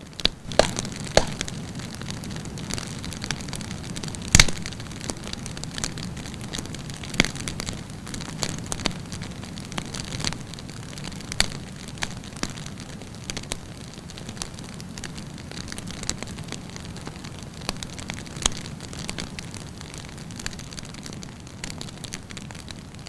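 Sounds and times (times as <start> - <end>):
campfire crackling and popping: 0.0 - 23.0
fire low hiss: 0.0 - 23.0.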